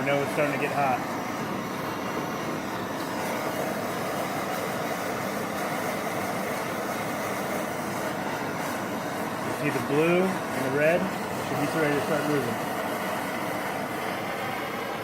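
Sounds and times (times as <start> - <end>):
propane torch flame rushing: 0.0 - 15.0.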